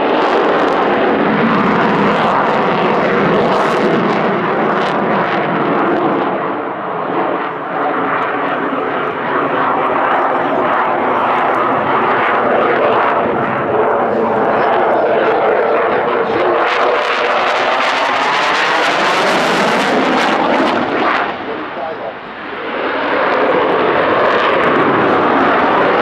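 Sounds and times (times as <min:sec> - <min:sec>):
jet noise overhead: 0:00.0 - 0:26.0.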